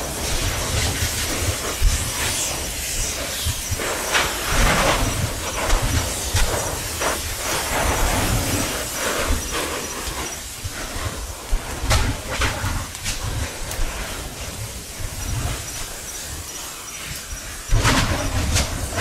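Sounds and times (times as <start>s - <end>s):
lava spatter erupting with bursts: 0.0s - 19.0s
rushing hiss of escaping gas: 0.0s - 19.0s.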